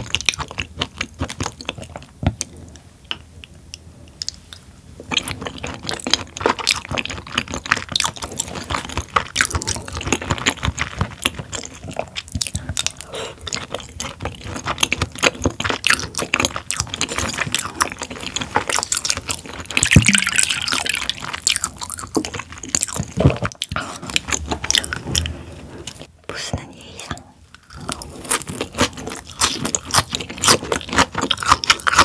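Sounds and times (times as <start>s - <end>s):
wet chewing: 4.2s - 26.1s, 27.0s - 32.0s.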